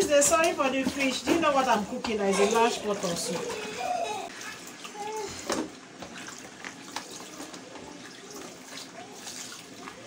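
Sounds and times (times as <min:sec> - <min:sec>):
water splashing in a basin: 0:00.0 - 0:10.0.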